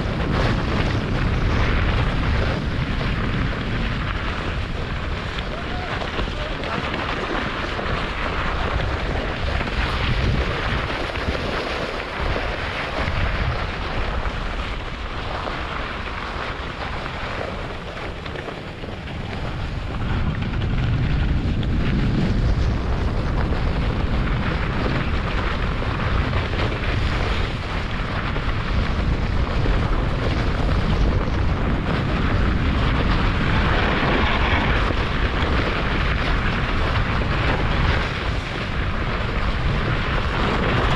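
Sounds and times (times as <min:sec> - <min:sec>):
sled runners scraping over snow: 0:00.0 - 0:40.9
wind buffeting microphone: 0:00.0 - 0:40.9.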